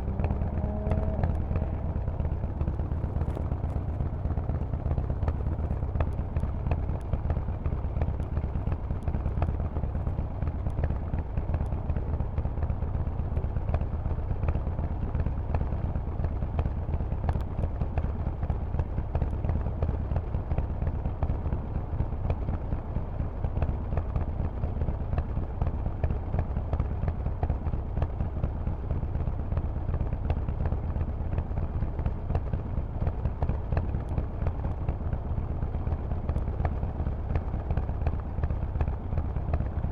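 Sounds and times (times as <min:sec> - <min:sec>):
motorcycle exhaust pulsing: 0:00.0 - 0:39.9.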